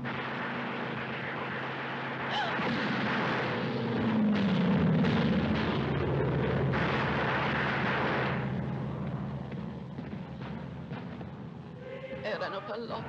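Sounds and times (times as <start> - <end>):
explosions: 0.0 - 11.8
gunfire: 0.0 - 11.8.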